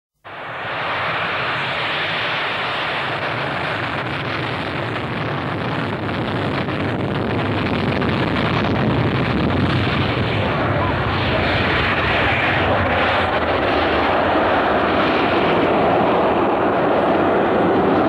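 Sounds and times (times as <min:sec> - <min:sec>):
jet engines roaring: 0:00.2 - 0:18.0.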